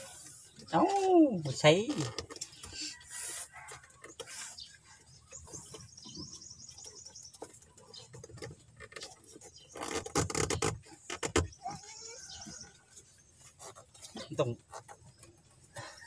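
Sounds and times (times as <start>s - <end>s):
hands rustling wiring and trim: 0.0s - 16.0s.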